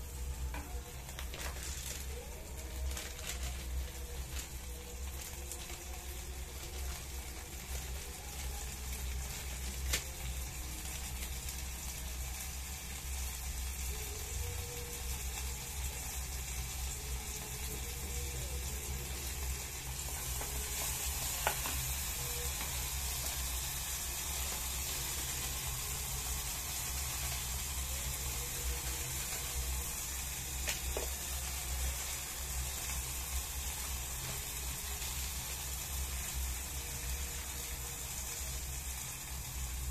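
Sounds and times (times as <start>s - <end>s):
tomatoes sizzling in oil: 0.0s - 39.9s.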